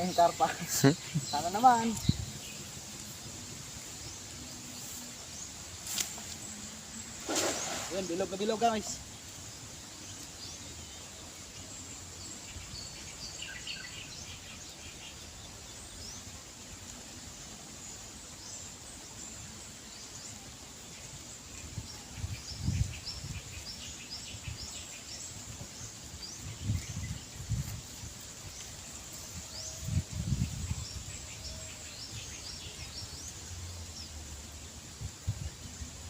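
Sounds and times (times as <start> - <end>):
small birds chirping: 0.0 - 36.0
steady background hiss: 0.0 - 36.0.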